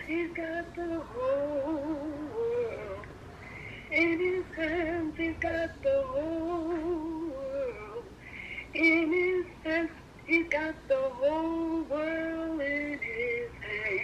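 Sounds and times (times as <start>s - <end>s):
woman singing through phone speaker: 0.0s - 14.0s.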